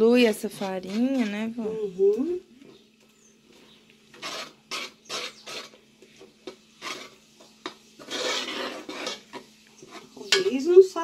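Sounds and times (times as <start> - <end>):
utensil scraping a pan: 0.1 - 1.6, 3.5 - 11.0.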